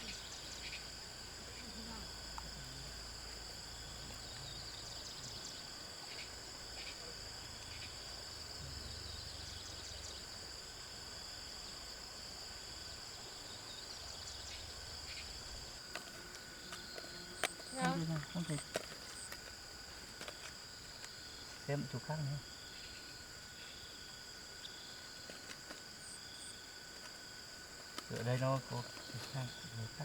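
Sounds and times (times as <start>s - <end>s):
field insects trilling: 0.0s - 30.0s.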